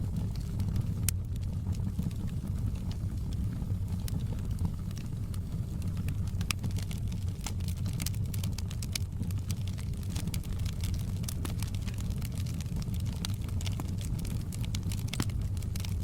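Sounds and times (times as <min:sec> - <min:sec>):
fire crackles and pops: 0:00.0 - 0:16.0
fire roaring in fireplace: 0:00.0 - 0:16.0.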